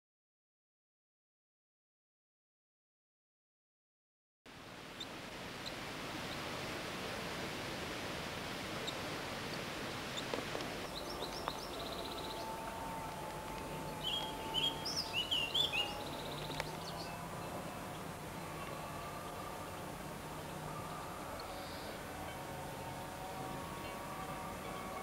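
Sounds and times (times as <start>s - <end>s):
faint steady hum: 4.5s - 25.0s
steady rushing hiss: 4.5s - 25.0s.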